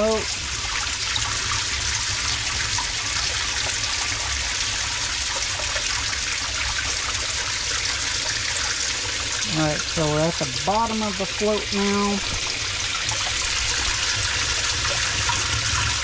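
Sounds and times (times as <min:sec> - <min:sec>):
water pouring and splashing: 0:00.0 - 0:16.0.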